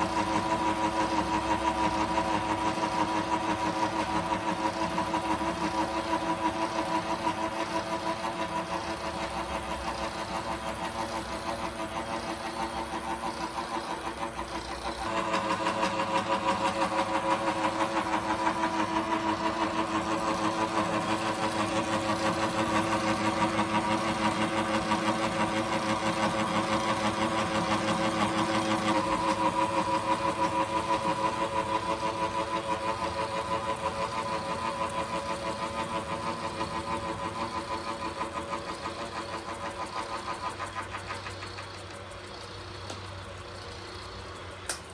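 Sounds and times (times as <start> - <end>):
milling machine running: 0.0 - 44.9.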